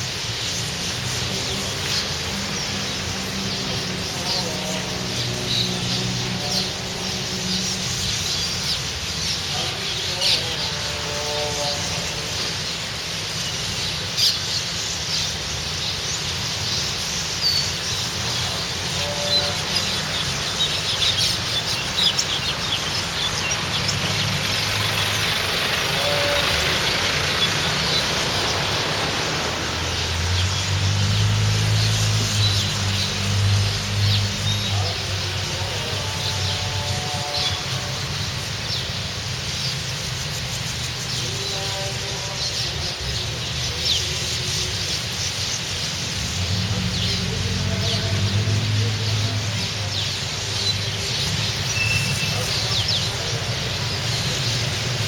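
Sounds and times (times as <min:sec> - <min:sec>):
flock of birds chirping: 0:00.0 - 0:55.0
low traffic hum: 0:00.0 - 0:55.0.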